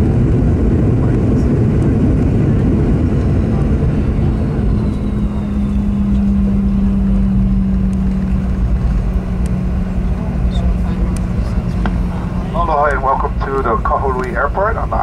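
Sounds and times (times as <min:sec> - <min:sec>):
aircraft wheels and engines rumbling: 0:00.0 - 0:15.0
steady low hum: 0:00.0 - 0:15.0.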